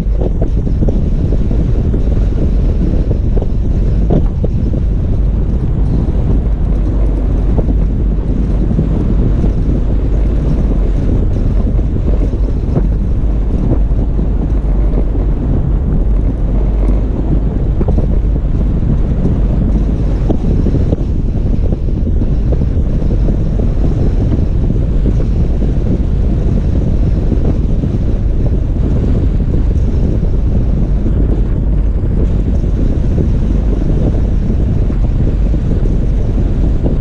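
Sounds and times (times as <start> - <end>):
car engine rumble: 0.0 - 37.0
tyres on dirt road: 0.0 - 37.0
wind: 0.0 - 37.0.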